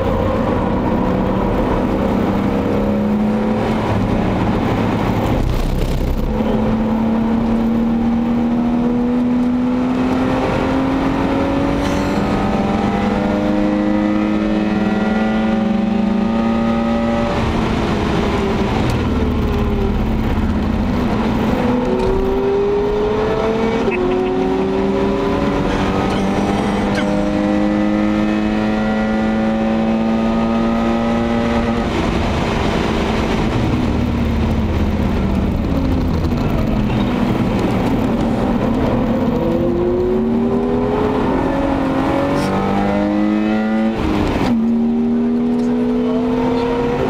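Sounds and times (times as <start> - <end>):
car engine accelerating: 0.0 - 47.0
gear changes: 0.0 - 47.0.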